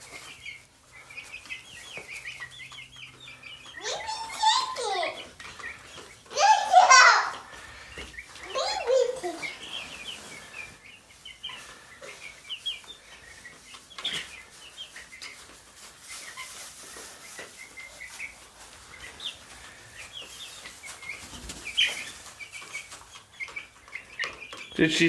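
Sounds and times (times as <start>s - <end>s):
baby chicks peeping: 0.0s - 25.0s.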